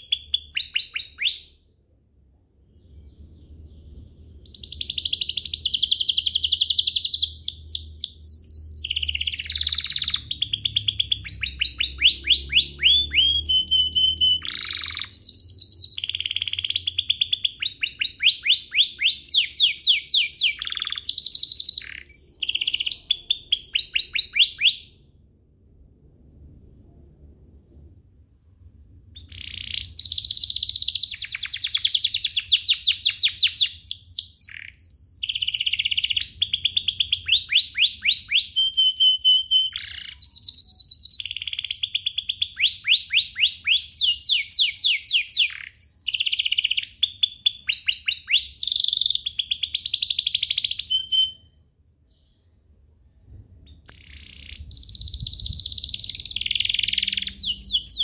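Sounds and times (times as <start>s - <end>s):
canary singing trills: 0.0s - 1.6s, 2.8s - 25.1s, 29.2s - 51.6s, 53.7s - 58.0s.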